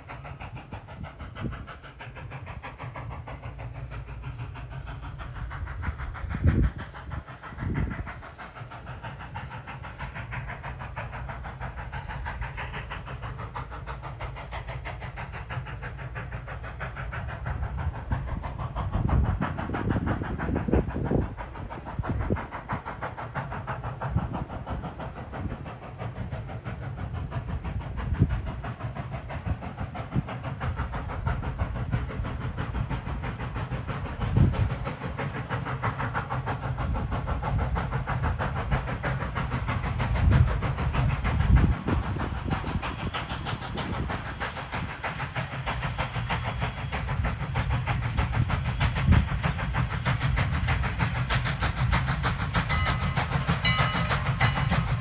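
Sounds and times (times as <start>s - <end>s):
steam locomotive hiss and rumble: 0.0s - 55.0s.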